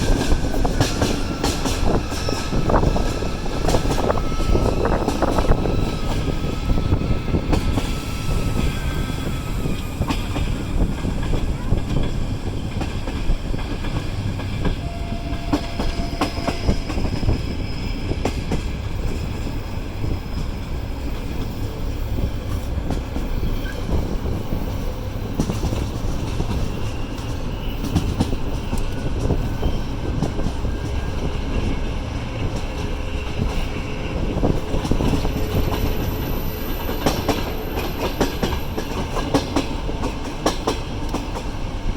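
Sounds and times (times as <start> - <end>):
diesel train rumbling: 0.0 - 41.9.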